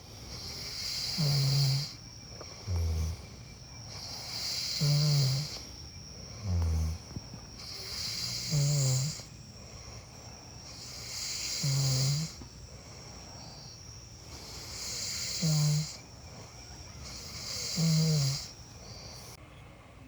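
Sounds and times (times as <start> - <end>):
high insect trill: 0.0 - 19.4
person snoring: 0.3 - 19.4.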